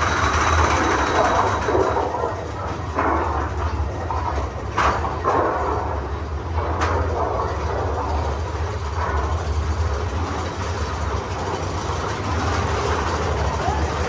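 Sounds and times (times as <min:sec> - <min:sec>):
roller coaster rumble and rattle: 0:00.0 - 0:14.0.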